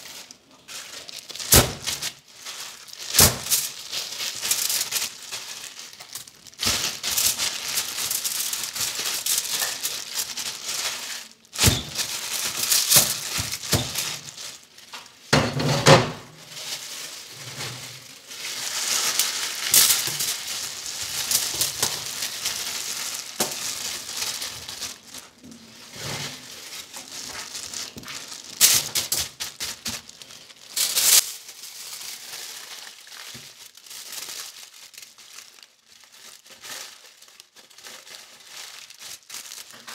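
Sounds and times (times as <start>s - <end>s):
aluminium foil crinkling: 0.0s - 15.4s, 16.2s - 39.9s.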